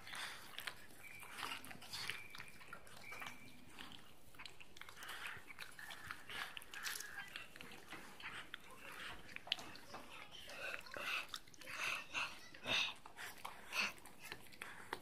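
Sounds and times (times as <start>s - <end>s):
dog licking fur: 0.0s - 15.0s.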